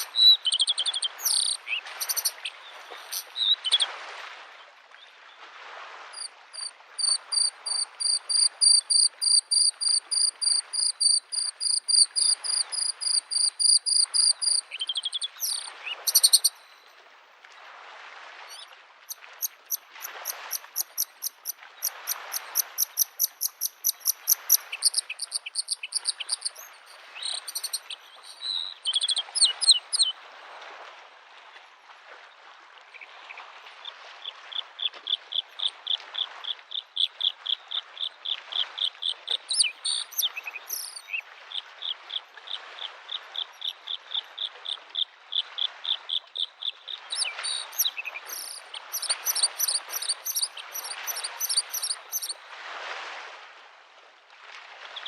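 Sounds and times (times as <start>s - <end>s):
lake waves lapping shore: 0.0s - 55.0s.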